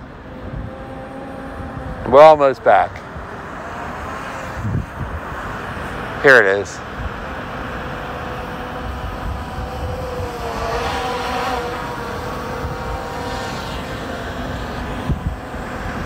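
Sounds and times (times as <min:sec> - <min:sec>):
wind on microphone: 0:00.0 - 0:03.4, 0:04.4 - 0:06.0, 0:07.0 - 0:16.0
drone propellers buzzing: 0:00.0 - 0:16.0.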